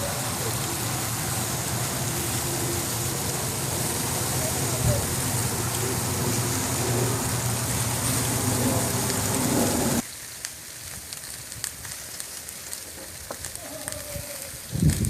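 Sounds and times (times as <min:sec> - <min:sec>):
crackles and pops: 0:00.0 - 0:15.0
meat sizzling over fire: 0:00.0 - 0:15.0.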